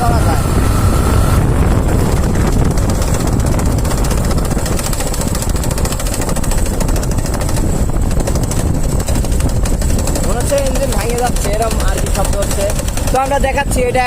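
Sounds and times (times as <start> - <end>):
motorcycle engine rattling: 0.0 - 14.0.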